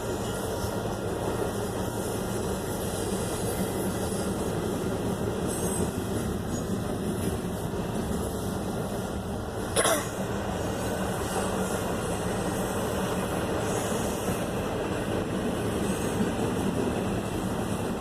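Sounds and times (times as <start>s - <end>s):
train cars rumbling on rails: 0.0s - 18.0s.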